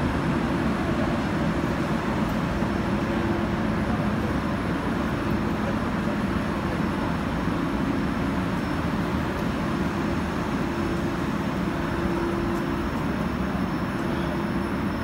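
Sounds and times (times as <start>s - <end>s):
broad whirring noise: 0.0s - 15.0s.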